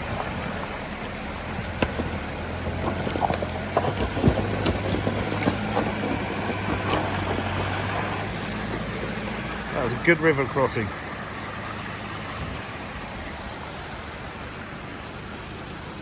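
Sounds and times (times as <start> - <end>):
water sloshing: 0.0 - 15.3
truck engine running under load: 0.0 - 16.0.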